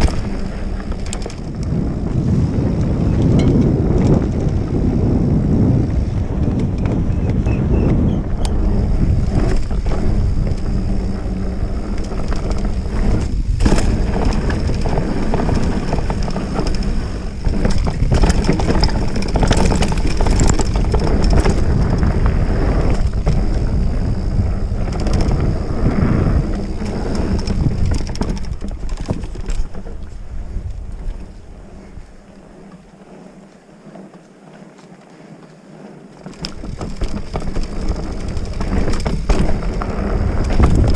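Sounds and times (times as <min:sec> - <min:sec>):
wind buffeting microphone: 0:00.0 - 0:33.8, 0:36.2 - 0:40.9
bike knocks and rattles: 0:00.0 - 0:40.9.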